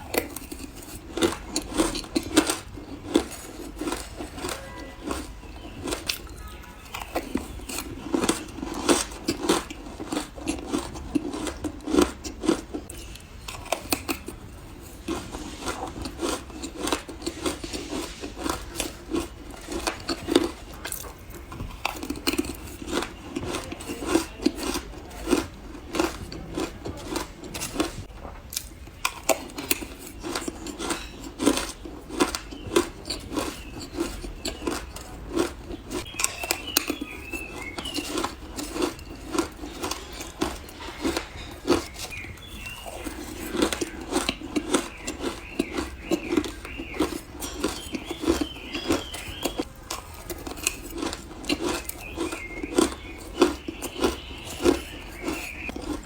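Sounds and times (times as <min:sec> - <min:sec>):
crunching frozen ice: 0:00.0 - 0:56.0.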